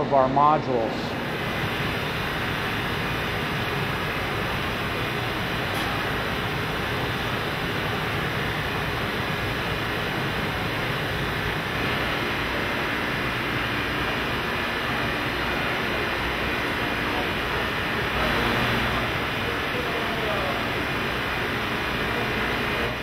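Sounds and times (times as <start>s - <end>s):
continuous machinery rush: 0.0s - 23.0s.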